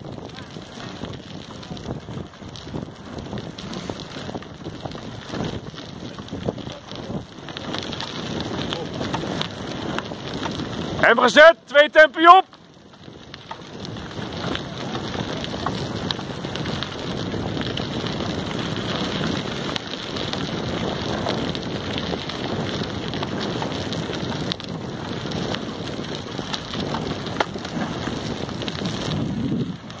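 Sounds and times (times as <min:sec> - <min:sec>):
wind on microphone: 0:00.0 - 0:11.2, 0:12.9 - 0:30.0.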